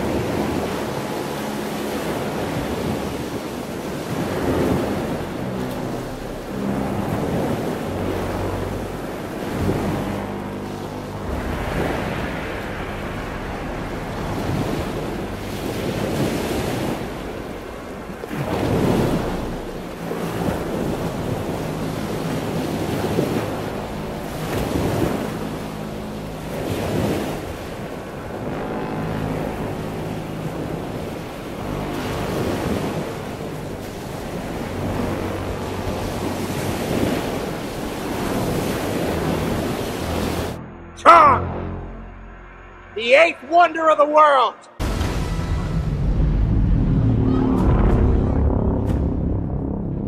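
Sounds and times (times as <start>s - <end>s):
waves surging: 0.0s - 49.3s
low steady drone: 0.0s - 50.0s
wind: 0.0s - 50.0s.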